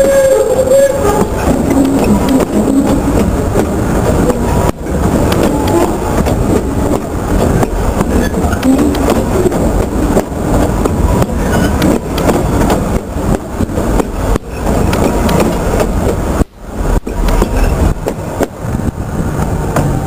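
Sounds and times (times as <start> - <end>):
train wheels rumbling and clacking: 0.0 - 20.0.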